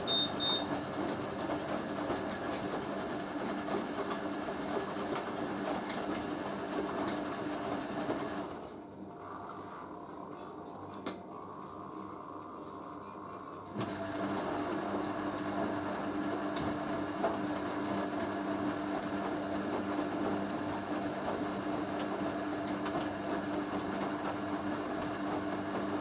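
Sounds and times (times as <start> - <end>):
washing machine drum motor: 0.0 - 10.3, 11.1 - 26.0.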